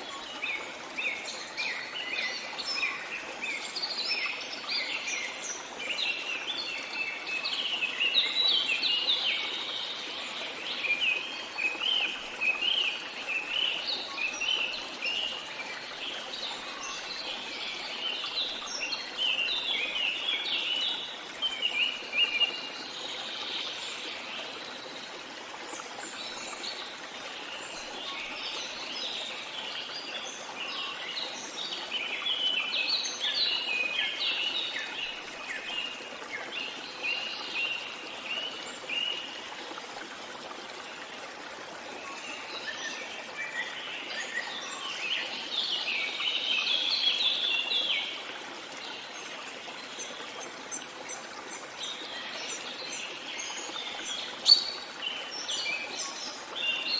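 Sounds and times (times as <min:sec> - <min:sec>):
running water hiss: 0:00.0 - 0:56.9
songbirds chirping: 0:00.0 - 0:56.9.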